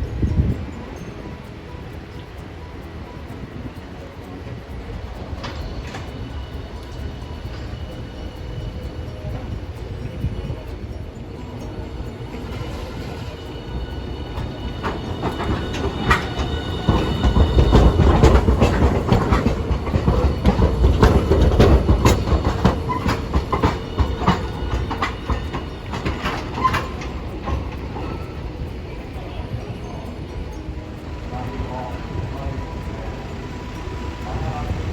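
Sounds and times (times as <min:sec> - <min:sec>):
streetcar rumble: 0:00.0 - 0:34.9
wheels clacking over rail joints: 0:00.0 - 0:34.9.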